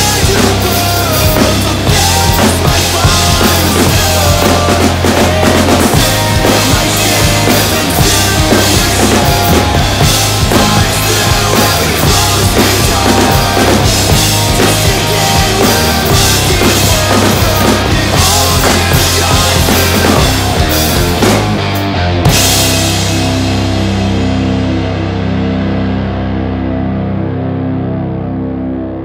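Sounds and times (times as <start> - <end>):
rock drum kit: 0.0 - 28.0
bass line: 0.0 - 29.0
full band recording: 0.0 - 29.0.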